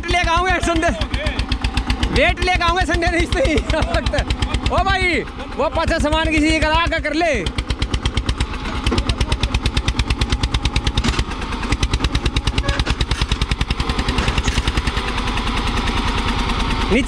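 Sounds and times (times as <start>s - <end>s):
tractor diesel engine chugging: 0.0s - 17.0s.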